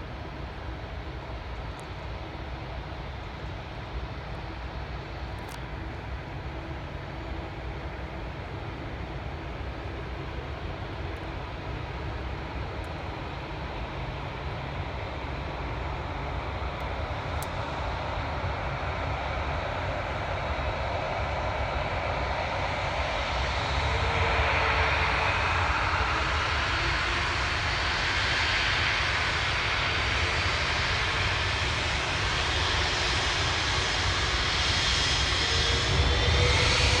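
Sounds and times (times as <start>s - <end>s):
jet engine rumble and hiss: 0.0s - 37.0s.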